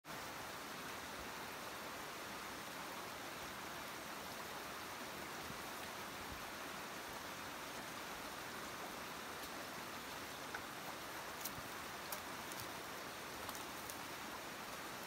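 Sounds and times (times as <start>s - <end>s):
running water in a creek: 0.0s - 15.0s.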